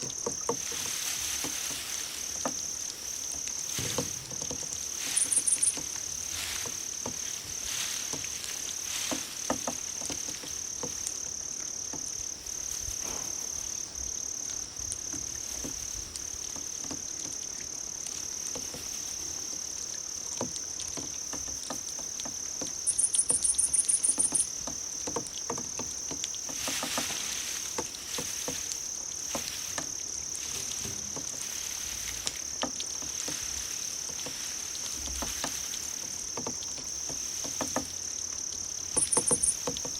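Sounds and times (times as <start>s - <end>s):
faint light clicks and patter: 0.0s - 12.9s, 13.8s - 39.9s
insect rapid high pulses: 0.0s - 16.8s, 17.4s - 39.9s
insect high-pitched trill: 0.0s - 39.9s.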